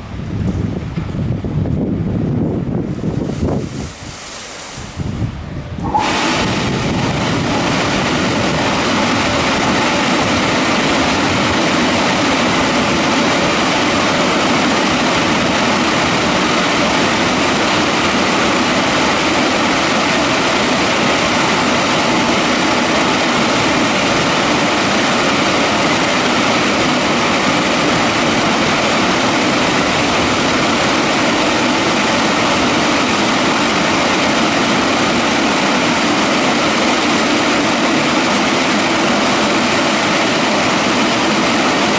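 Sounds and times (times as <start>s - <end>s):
car wash blowers rushing air: 0.0s - 41.9s.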